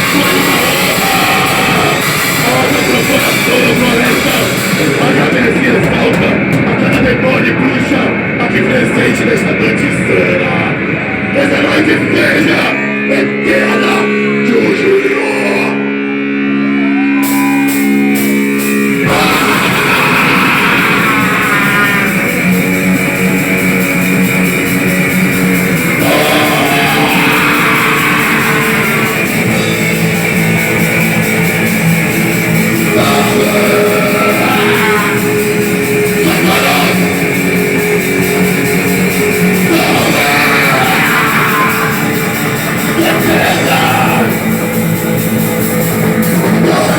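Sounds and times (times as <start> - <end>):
held guitar chords ringing: 0.0 - 46.9
rock band playing: 0.0 - 46.9.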